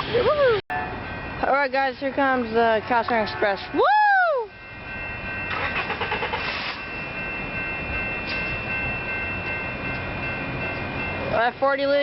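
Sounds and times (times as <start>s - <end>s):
passenger train rumbling by: 0.0s - 12.0s
high ringing tones: 0.7s - 12.0s.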